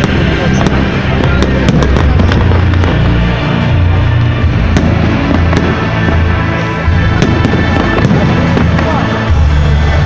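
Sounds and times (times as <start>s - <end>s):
fireworks banging: 0.0s - 10.0s
loud music with heavy bass: 0.0s - 10.0s.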